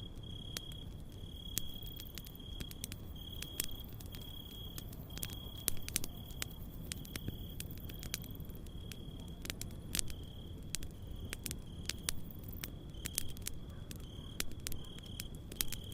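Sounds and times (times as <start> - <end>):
campfire crackling and popping: 0.0 - 15.9
crickets chirping: 0.0 - 15.9.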